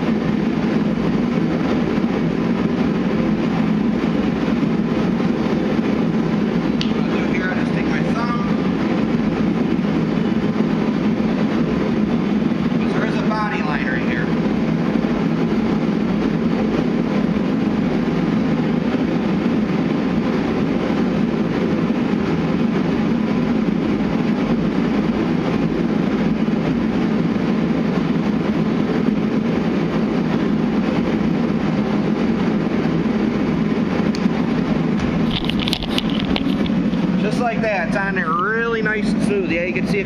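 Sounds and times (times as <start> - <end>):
steady low drone: 0.0 - 40.0.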